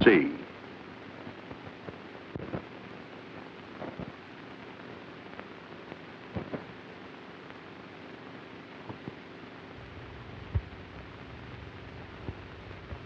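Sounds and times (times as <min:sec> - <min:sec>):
film soundtrack hiss: 0:00.0 - 0:13.0.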